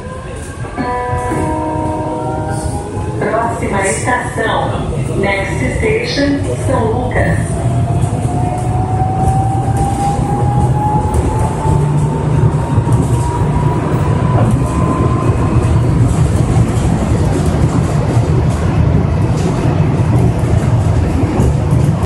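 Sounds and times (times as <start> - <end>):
monorail train rumbling: 0.0 - 22.0.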